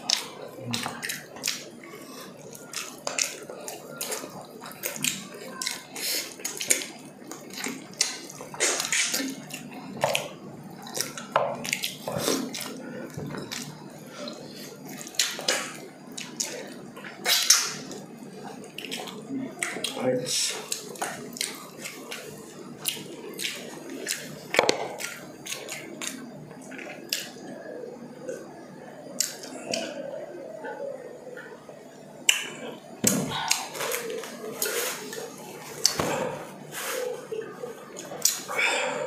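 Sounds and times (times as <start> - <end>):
people chewing and lip-smacking: 0.0 - 39.0.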